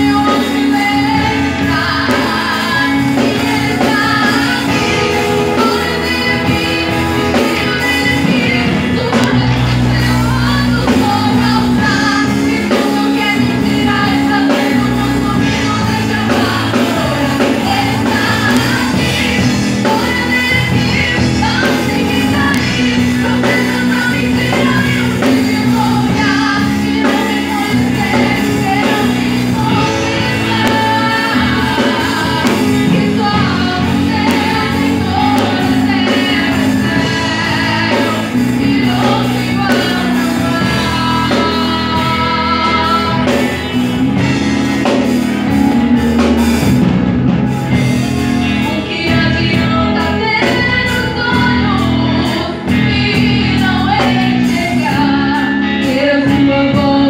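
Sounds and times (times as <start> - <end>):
girl singing into a microphone: 0.0 - 43.7, 48.2 - 57.0
drums: 0.0 - 57.0
keyboard: 0.0 - 57.0.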